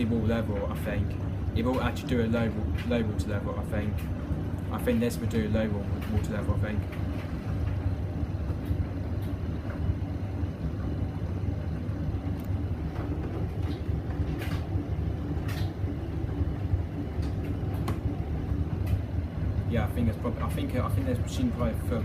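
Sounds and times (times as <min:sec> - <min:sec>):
washing machine hum and rumble: 0:00.0 - 0:22.0.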